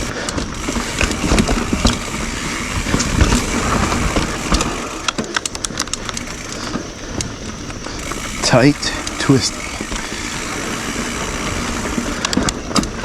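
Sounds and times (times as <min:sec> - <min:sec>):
bike clicks and rattles: 0:00.0 - 0:13.0
bike tyres rolling over dirt: 0:00.0 - 0:13.0.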